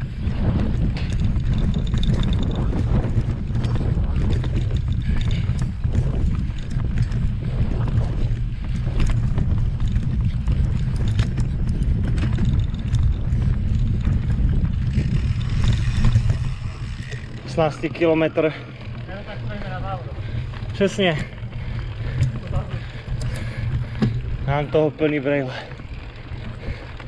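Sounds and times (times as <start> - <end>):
bike rattling over bumps: 0.0 - 27.0
tyres rumbling on rough trail: 0.0 - 27.0
wind buffeting microphone: 0.0 - 27.0.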